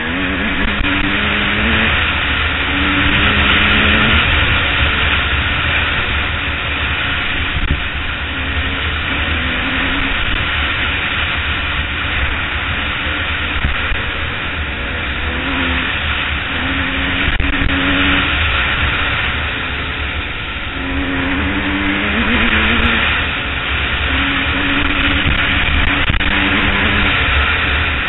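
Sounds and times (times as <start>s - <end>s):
dirt bike engine revving: 0.0s - 28.0s
rush of riding noise: 0.0s - 28.0s.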